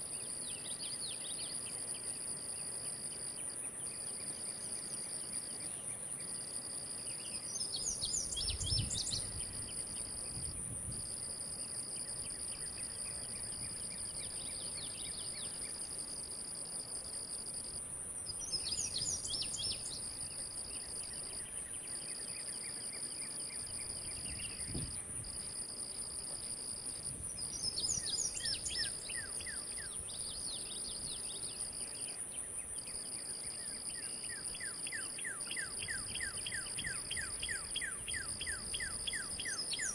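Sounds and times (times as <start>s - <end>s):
high insect trill: 0.0s - 39.9s
low insect trill: 0.0s - 39.9s.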